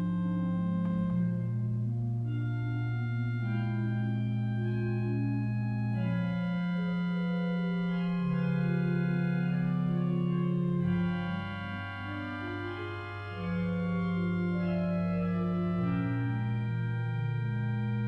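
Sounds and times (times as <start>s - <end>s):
pipe organ chords: 0.0s - 18.0s.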